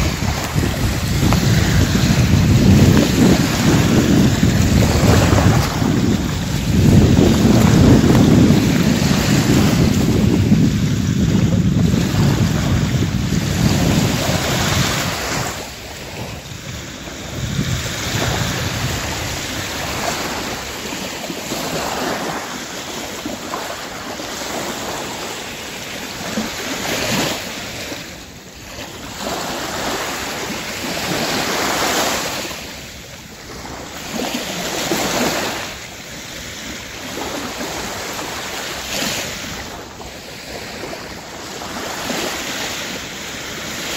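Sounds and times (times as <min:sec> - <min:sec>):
sea waves washing on shore: 0:00.0 - 0:43.9
wind rumble on microphone: 0:00.0 - 0:43.9.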